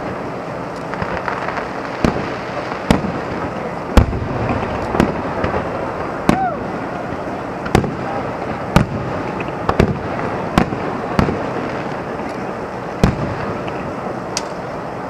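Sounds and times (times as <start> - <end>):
steady background hiss: 0.0 - 15.0
firework shells bursting: 0.1 - 14.8.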